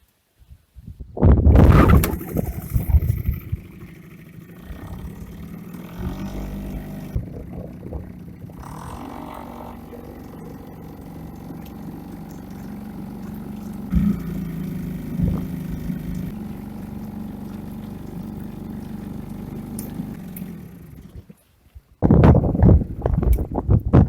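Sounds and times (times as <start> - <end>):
outboard motor running: 1.5 - 24.0.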